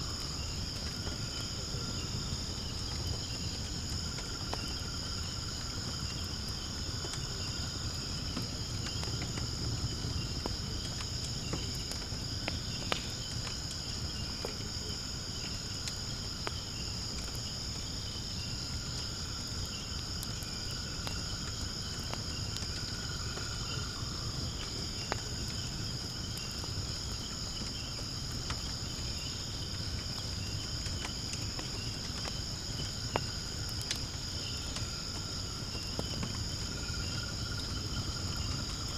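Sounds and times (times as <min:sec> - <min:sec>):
insects chorus: 0:00.0 - 0:38.9
wood fire crackling and popping: 0:00.0 - 0:38.9.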